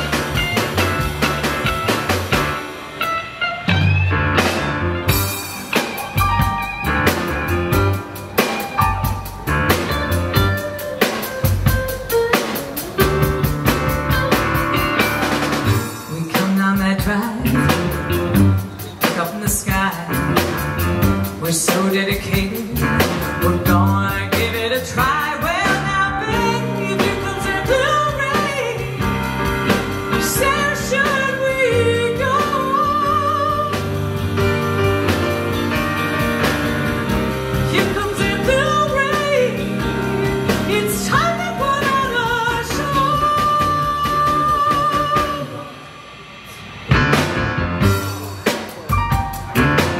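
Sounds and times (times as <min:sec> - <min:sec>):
upright bass: 0:00.0 - 0:02.6, 0:03.7 - 0:18.8, 0:19.5 - 0:45.4, 0:46.9 - 0:49.9
electric keyboard: 0:00.0 - 0:16.3, 0:22.4 - 0:45.5, 0:46.9 - 0:49.9
drum kit: 0:00.0 - 0:49.9
electric guitar: 0:00.0 - 0:49.9.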